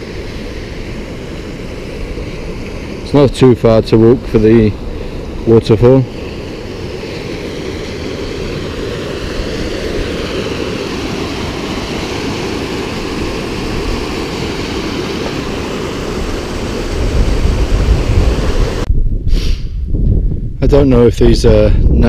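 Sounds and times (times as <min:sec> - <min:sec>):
water rushing over rock: 0:00.0 - 0:18.9.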